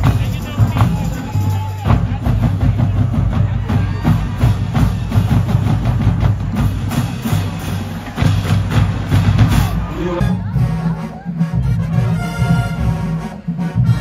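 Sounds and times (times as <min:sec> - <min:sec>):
heavy bass drum strokes: 0:00.0 - 0:14.0
marching drum cadence: 0:00.0 - 0:14.0.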